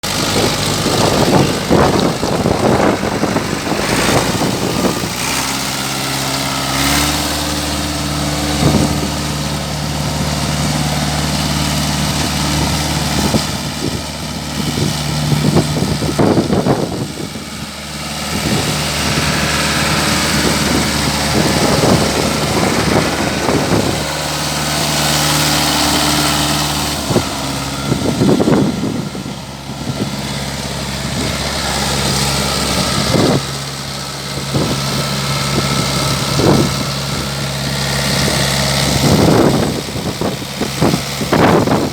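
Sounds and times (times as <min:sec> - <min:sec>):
bursts of rushing noise: 0:00.0 - 0:33.9
tractor diesel engine idling: 0:00.0 - 0:41.9.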